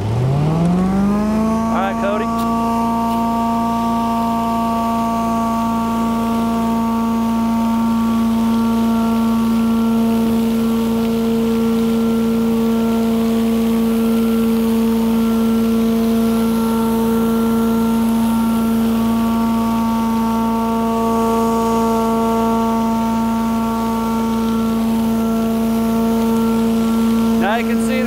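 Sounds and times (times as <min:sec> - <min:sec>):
pressure washer drone: 0:00.0 - 0:28.0
spraying water and suction hiss: 0:02.4 - 0:28.0.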